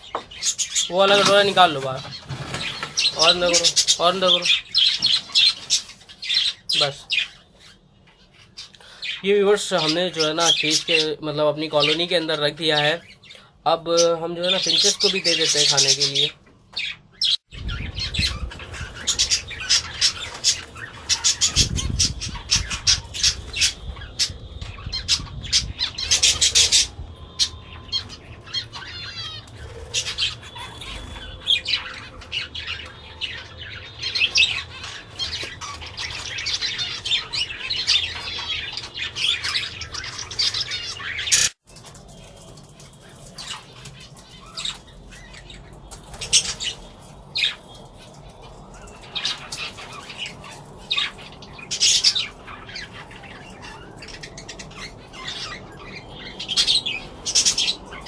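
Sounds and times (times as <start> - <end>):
caged birds chattering: 0.0 - 58.0.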